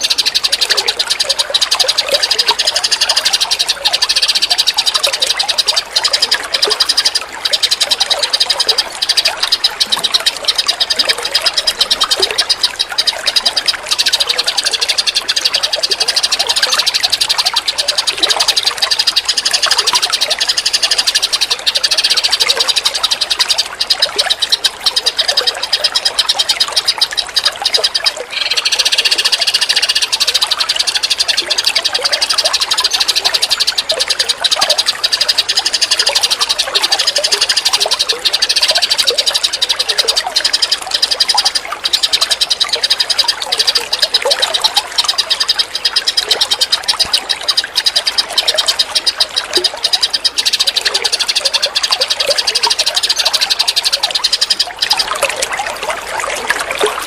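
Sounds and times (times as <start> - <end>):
fast chattering birdsong: 0.0 - 57.0
low bird chirps: 0.0 - 57.0.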